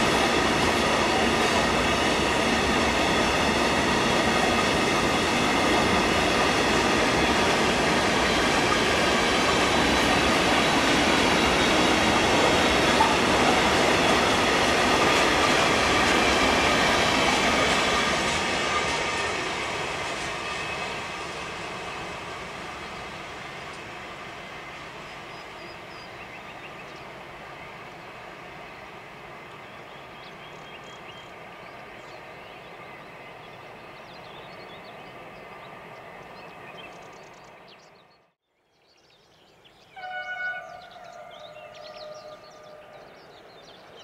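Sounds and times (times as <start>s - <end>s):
train wheels on rails: 0.0s - 37.8s.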